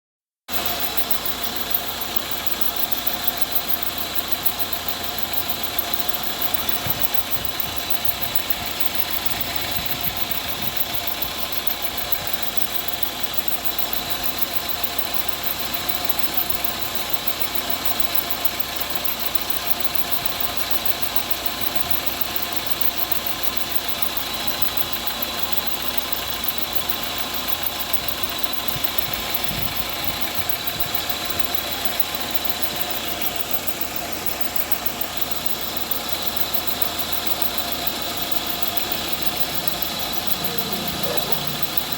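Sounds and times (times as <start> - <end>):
car engine idling: 0.5 - 41.9
continuous hiss: 0.5 - 41.9.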